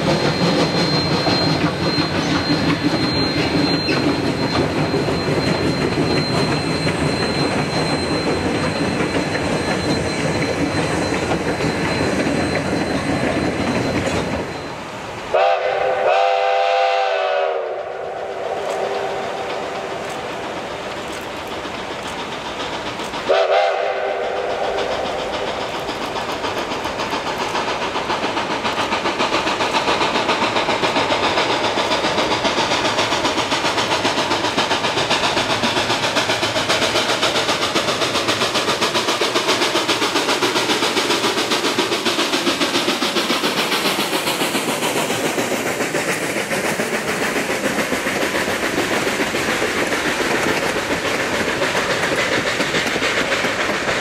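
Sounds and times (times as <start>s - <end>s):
steam locomotive chime whistle: 0.0s - 21.9s, 22.7s - 54.0s
steam locomotive exhaust chuffing: 0.0s - 54.0s
train wheels clickety-clack: 0.0s - 54.0s.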